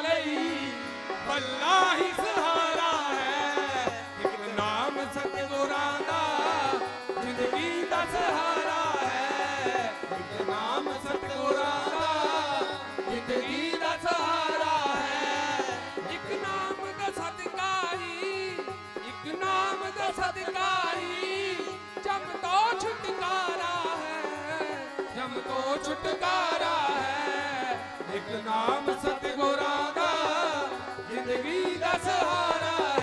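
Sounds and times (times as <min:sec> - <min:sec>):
dholak drum rhythm: 0:00.0 - 0:33.0
harmonium: 0:00.0 - 0:33.0
men singing: 0:00.0 - 0:33.0.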